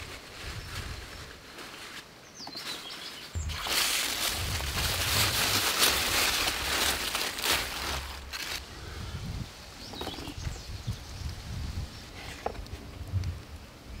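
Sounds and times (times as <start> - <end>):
leaves rustling and crackling: 0.0 - 14.0.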